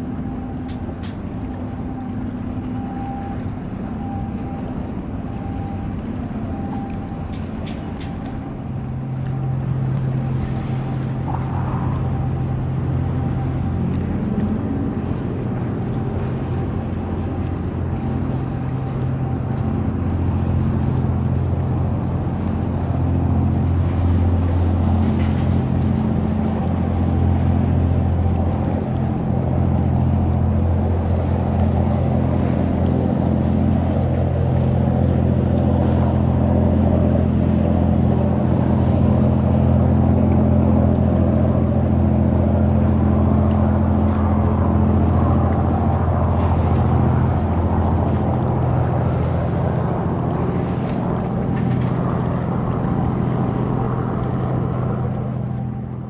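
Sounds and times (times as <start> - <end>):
ship diesel engines droning: 0.0 - 56.0.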